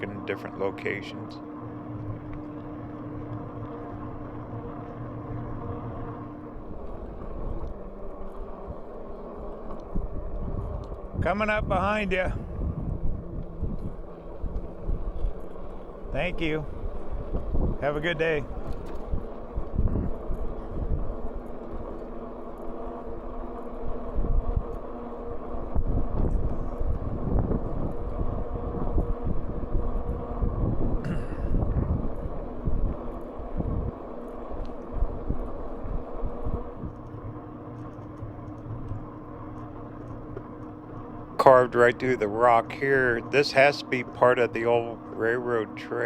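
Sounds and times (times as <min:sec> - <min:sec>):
wind buffeting microphone: 0:00.0 - 0:45.7
electric motor hum: 0:00.0 - 0:46.0.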